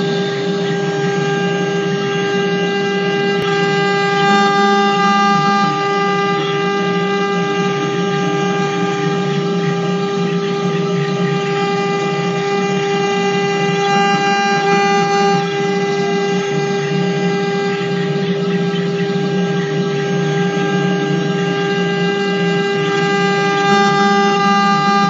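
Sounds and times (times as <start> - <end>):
engraving machine spindle whining: 0.0 - 25.0.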